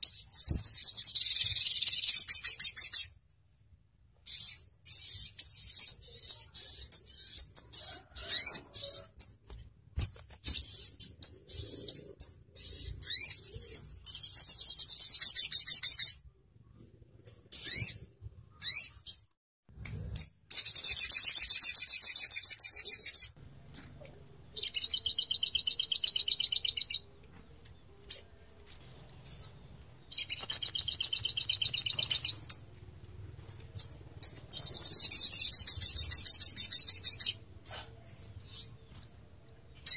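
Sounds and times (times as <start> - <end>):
bird chirping and trilling: 0.0 - 3.2, 4.2 - 9.4, 10.0 - 16.2, 17.2 - 19.3, 20.2 - 27.2, 28.1 - 32.7, 33.4 - 39.9.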